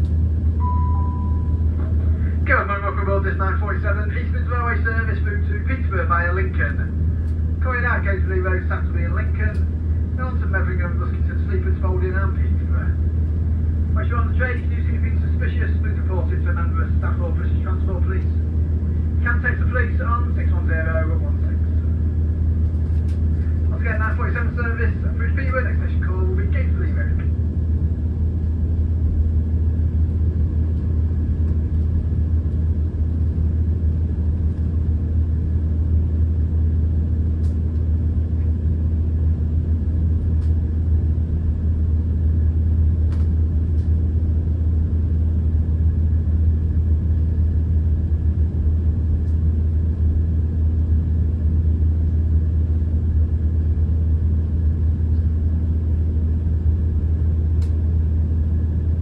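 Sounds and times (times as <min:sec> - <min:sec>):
faint steady whine: 0:00.0 - 0:59.0
train diesel engine rumble: 0:00.0 - 0:59.0.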